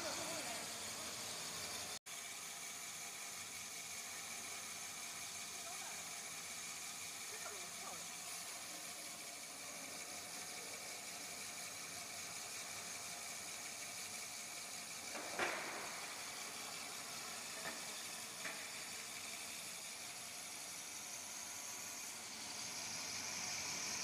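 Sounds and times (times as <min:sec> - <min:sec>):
machine hissing and whining: 0:00.0 - 0:24.0.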